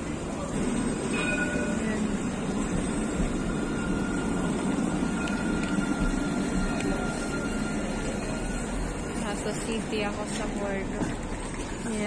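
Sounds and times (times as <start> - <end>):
electric tram rumbling: 0.0 - 12.0.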